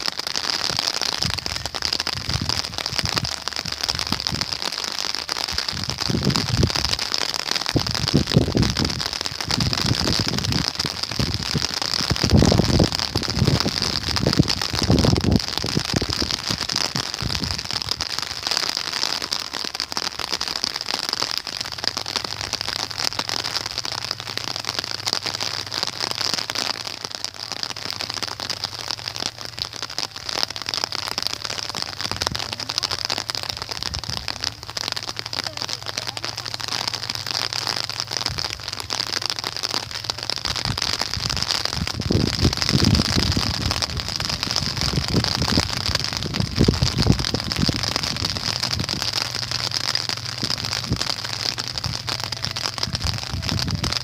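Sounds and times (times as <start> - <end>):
low rumbles: 0.0 - 54.0
rain falling: 0.0 - 54.0.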